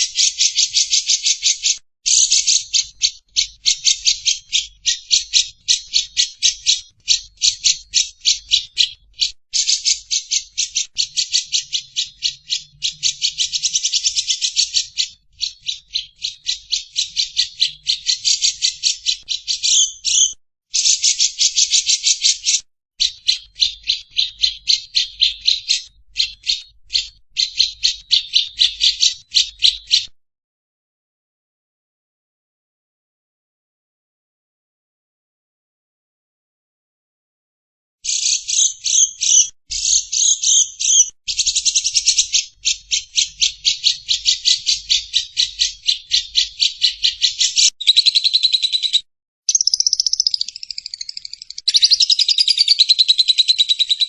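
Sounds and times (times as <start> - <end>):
bird chattering trill: 0.0 - 30.0, 38.1 - 54.0.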